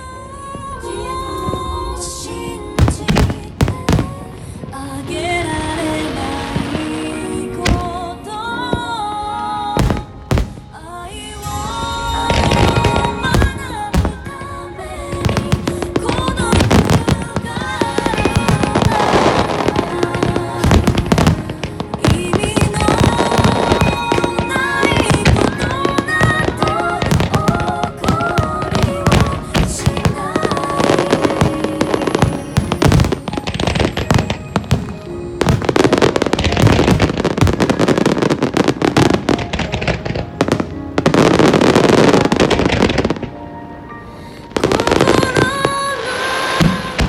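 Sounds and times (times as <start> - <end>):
fireworks crackling: 0.0 - 47.0
music playing: 0.0 - 47.0
fireworks booming: 1.3 - 9.0, 9.8 - 43.4, 44.5 - 47.0.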